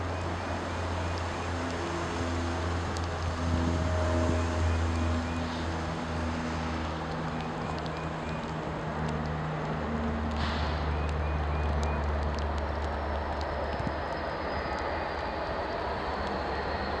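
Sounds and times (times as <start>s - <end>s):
freight train wheel noise: 0.0s - 17.0s
locomotive engine rumble: 0.0s - 17.0s.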